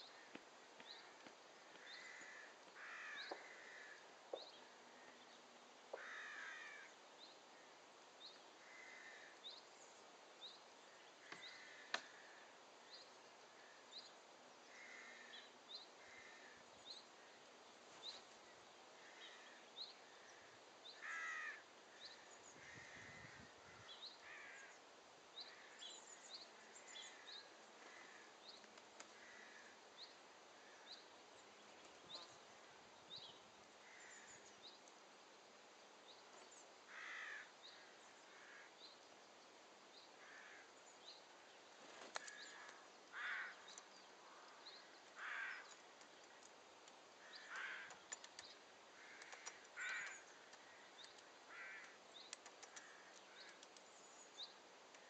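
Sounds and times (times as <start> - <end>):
birds lower calls: 0.0 - 34.9, 36.1 - 55.0.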